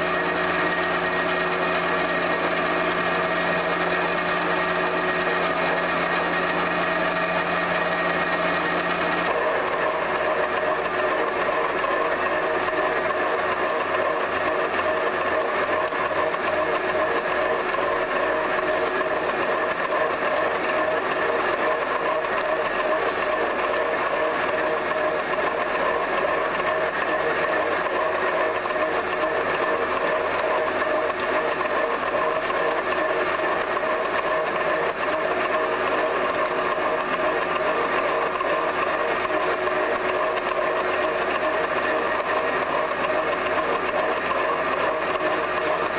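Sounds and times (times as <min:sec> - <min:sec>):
machinery humming: 0:00.0 - 0:45.9.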